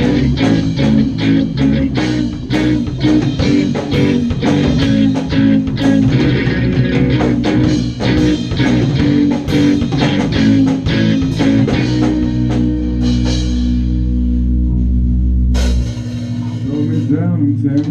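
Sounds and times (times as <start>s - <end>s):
drum kit: 0.0s - 17.9s
ska-punk band playing: 0.0s - 17.9s.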